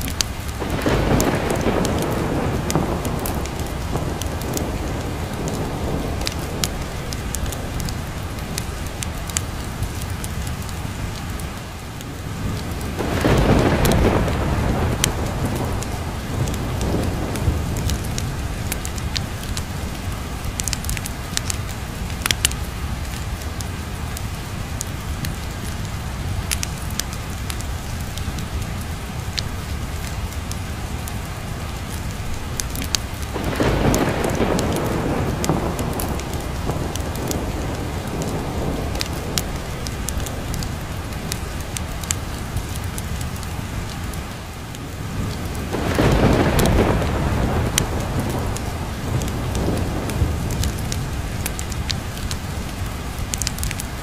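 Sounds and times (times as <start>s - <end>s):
crackling fireplace: 0.0s - 54.0s
steady rain: 0.0s - 54.0s
rolling thunder: 0.1s - 11.2s, 12.1s - 23.5s, 31.8s - 44.0s, 44.9s - 53.8s.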